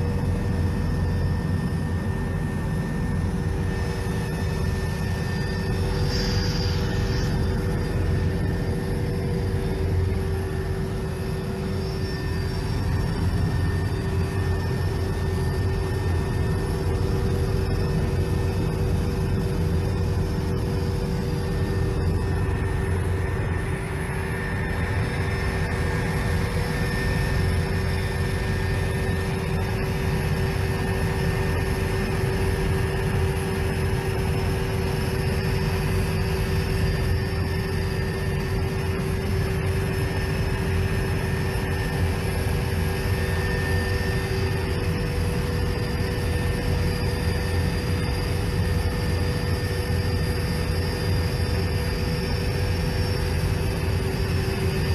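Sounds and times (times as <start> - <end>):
faint high whine: 0.0 - 54.9
helicopter engine and rotor drone: 0.0 - 54.9.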